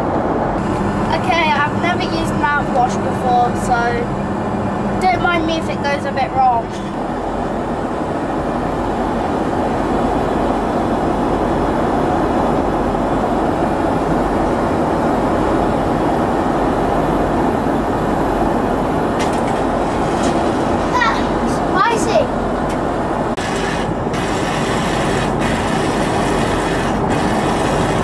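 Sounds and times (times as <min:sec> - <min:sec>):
airliner cabin rushing noise: 0:00.0 - 0:28.0.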